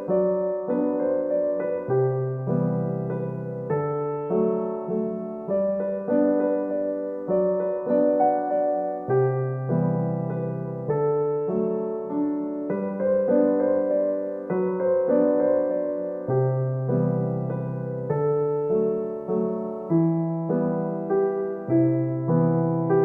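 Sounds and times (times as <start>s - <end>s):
gentle solo piano music: 0.0s - 23.0s.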